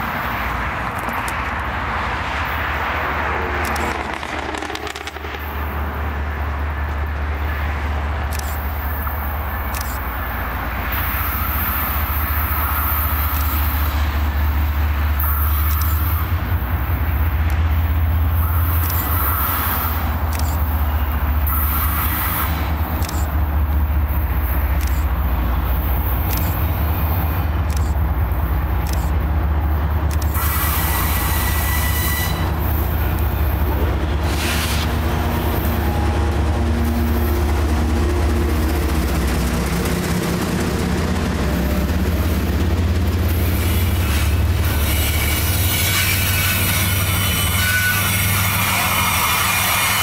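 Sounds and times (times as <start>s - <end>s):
locomotive rumble: 0.0s - 50.0s
train wheel and rail noise: 0.0s - 50.0s.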